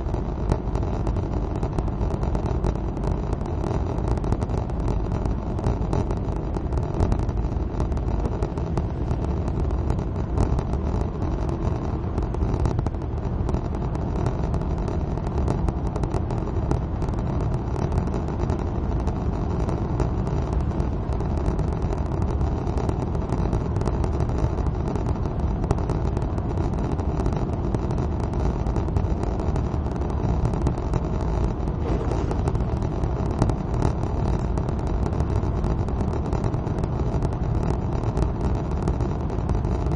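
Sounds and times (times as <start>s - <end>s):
car engine and tyre noise: 0.0s - 39.9s
faint ticks: 0.0s - 39.9s.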